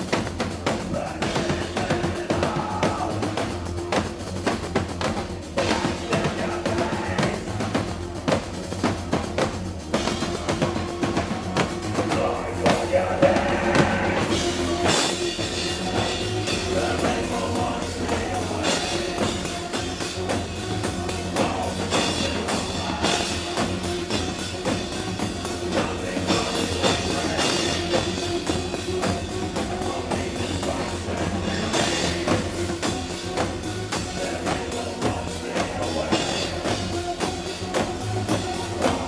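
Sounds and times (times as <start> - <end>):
pounding drum kit: 0.0 - 39.0
rock band playing loud: 0.0 - 39.0.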